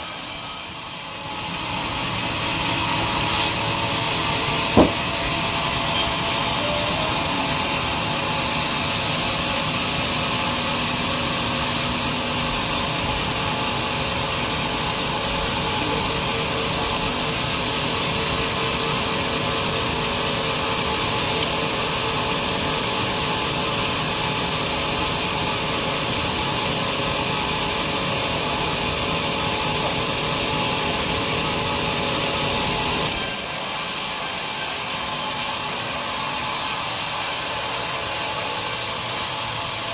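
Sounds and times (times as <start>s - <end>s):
bandsaw cutting log: 0.0s - 39.9s.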